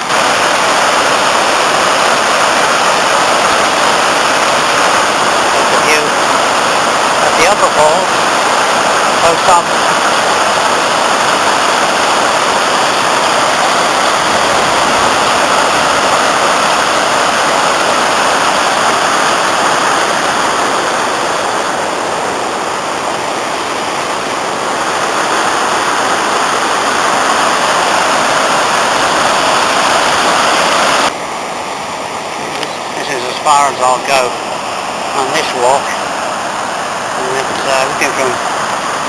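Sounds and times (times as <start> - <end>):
rush of falling water: 0.0 - 39.0.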